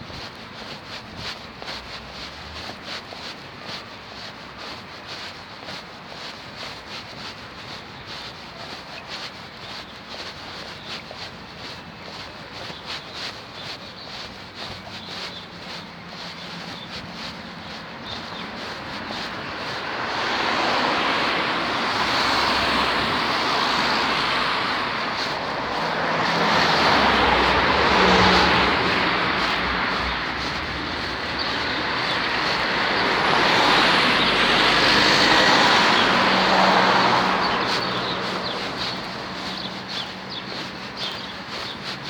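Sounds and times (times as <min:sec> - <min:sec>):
road vehicles passing: 0:00.0 - 0:42.0.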